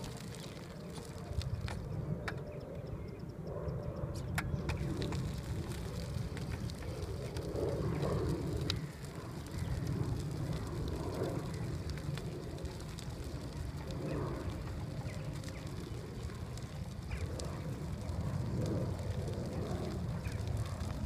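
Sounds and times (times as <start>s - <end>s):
wheelchair tyres crunching gravel: 0.0s - 2.1s, 4.6s - 21.0s
steady low rumble: 0.0s - 21.0s.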